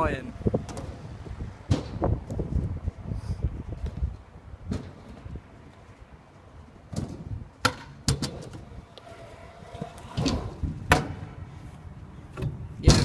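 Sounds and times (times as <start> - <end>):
skateboard wheels rolling: 0.0 - 13.0.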